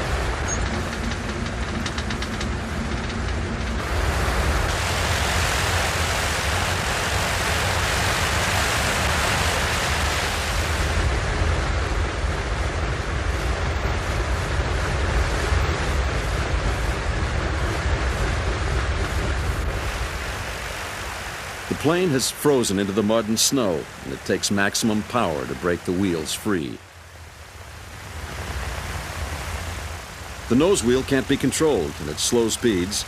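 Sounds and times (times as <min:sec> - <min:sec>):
propeller aircraft engines rumbling: 0:00.0 - 0:33.0
propeller wash rushing: 0:00.0 - 0:33.0.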